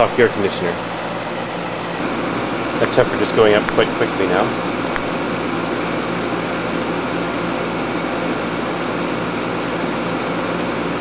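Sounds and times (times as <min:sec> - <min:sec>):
heat pump compressor and fan humming: 0:00.0 - 0:11.0.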